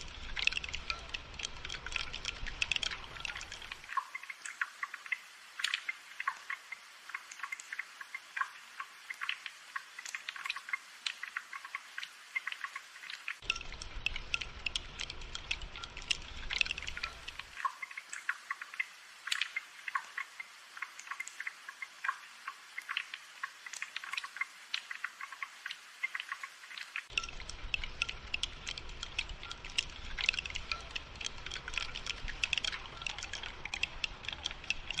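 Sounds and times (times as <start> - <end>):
rain dripping and pattering: 0.0 - 35.0.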